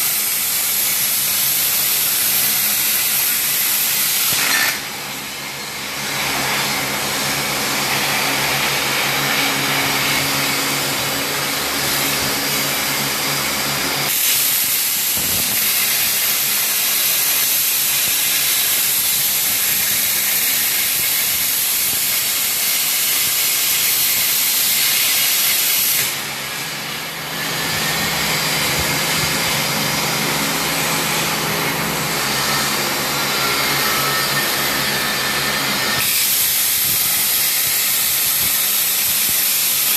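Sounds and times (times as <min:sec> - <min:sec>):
cnc machine hissing: 0:00.0 - 0:39.9.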